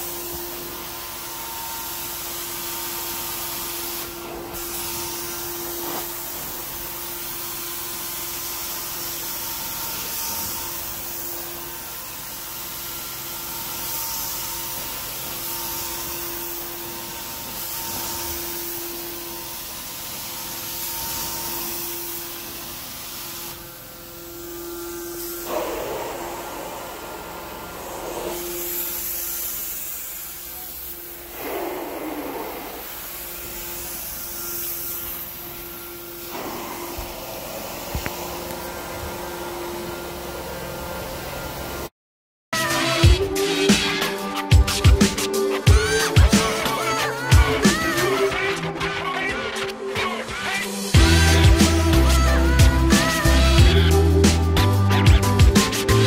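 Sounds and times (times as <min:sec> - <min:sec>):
extraction wand sucking and hissing: 0:00.0 - 0:40.3, 0:42.6 - 0:56.0.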